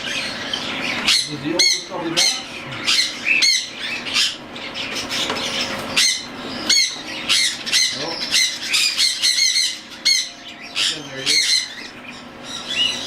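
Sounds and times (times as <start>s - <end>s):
cockatiels squawking: 0.0s - 13.0s.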